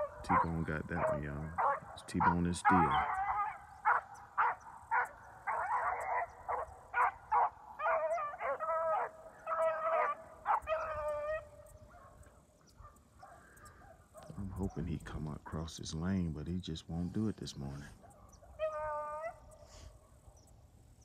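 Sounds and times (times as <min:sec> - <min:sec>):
beagles baying: 0:00.0 - 0:15.5, 0:17.6 - 0:20.6.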